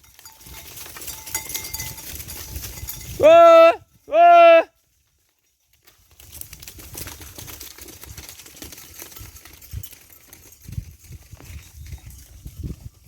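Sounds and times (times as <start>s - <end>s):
crackling and rustling: 0.0s - 3.1s, 4.8s - 13.0s.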